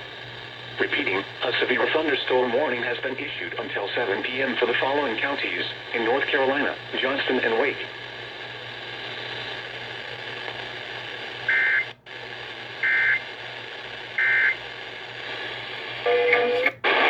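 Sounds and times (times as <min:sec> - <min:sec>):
radio hiss and hum: 0:00.0 - 0:17.0.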